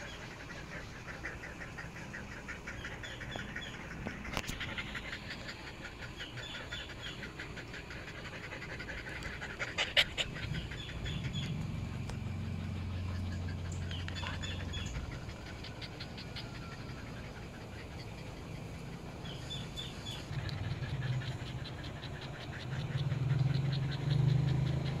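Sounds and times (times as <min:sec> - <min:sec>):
puppies panting: 0:00.0 - 0:25.0.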